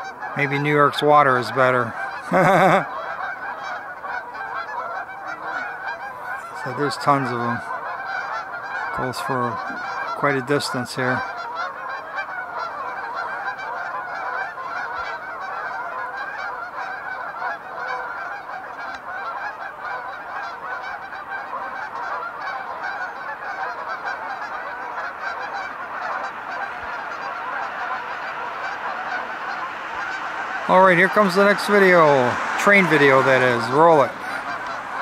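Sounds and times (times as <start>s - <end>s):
geese honking: 0.0s - 35.0s.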